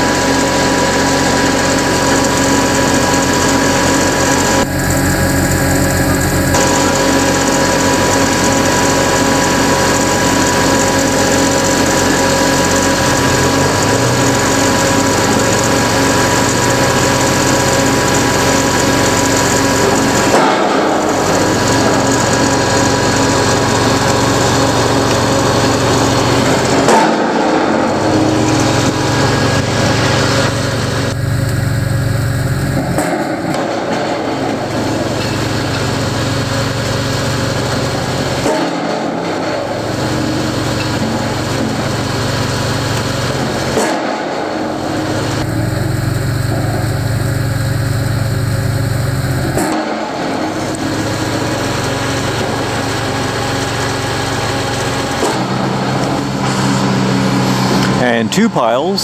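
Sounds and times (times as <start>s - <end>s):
construction machinery engine drone: 0.0s - 59.0s.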